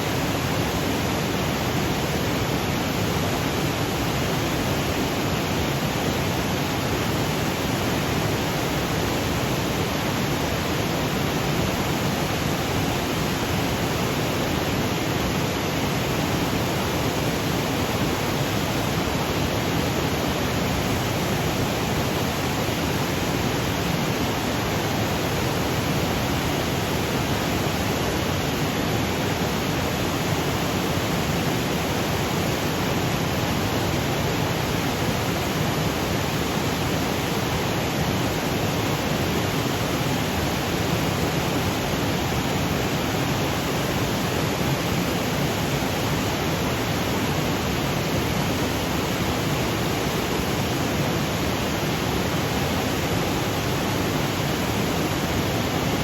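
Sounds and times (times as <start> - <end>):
waterfall rushing over boulders: 0.0 - 56.0.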